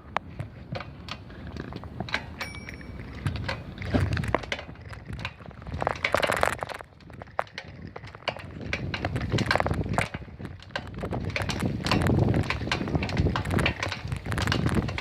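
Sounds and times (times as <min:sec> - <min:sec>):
bicycle clicks and rattles: 0:00.0 - 0:15.0
bicycle scraping: 0:00.0 - 0:15.0.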